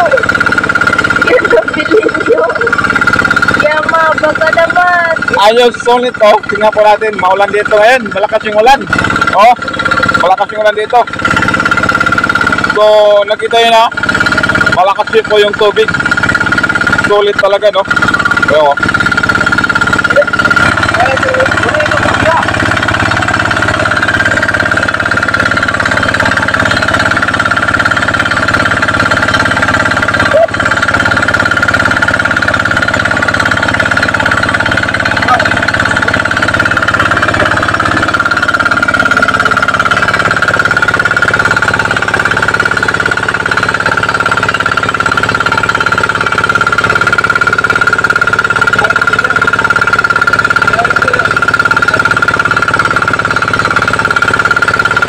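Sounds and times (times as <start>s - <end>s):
diesel water pump droning: 0.0s - 55.0s.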